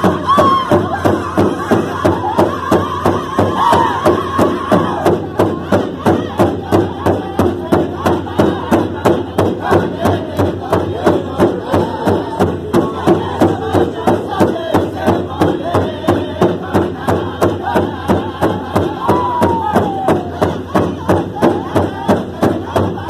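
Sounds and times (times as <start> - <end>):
big drum beating: 0.0 - 23.0
group singing in high voices: 0.0 - 23.0.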